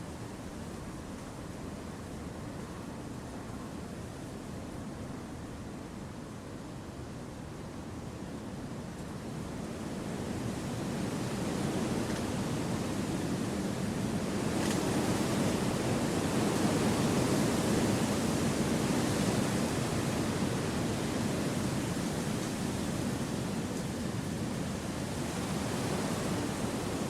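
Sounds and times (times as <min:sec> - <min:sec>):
wind through forest trees: 0:00.0 - 0:27.0.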